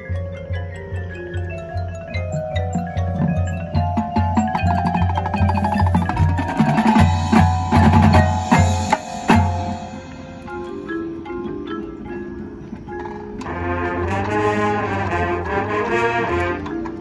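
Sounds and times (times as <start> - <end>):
marching band playing: 0.0 - 17.0
marimbas and xylophones: 0.0 - 17.0
percussion hits: 0.0 - 17.0.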